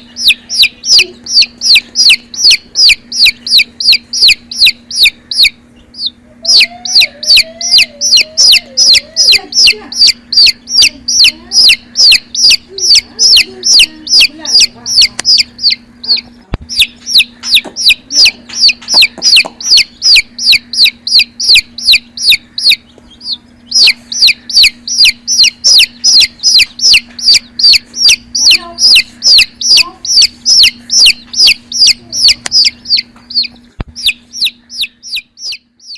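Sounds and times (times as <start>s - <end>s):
baby chick peeping: 0.0s - 35.9s.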